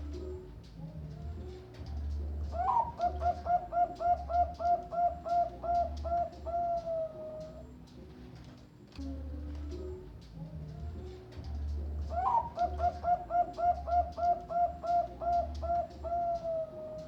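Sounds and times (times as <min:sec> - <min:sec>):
dove cooing: 0:00.0 - 0:08.3, 0:09.0 - 0:17.0.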